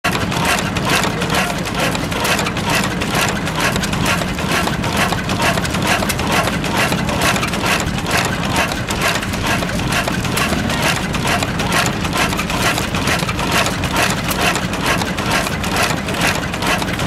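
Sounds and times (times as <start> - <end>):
stationary oil engine running: 0.0 - 17.0.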